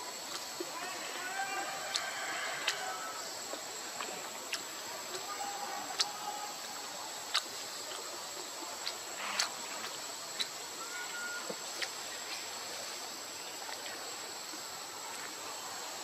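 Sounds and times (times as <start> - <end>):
high insect drone: 0.0 - 16.0
steady hiss: 0.0 - 16.0.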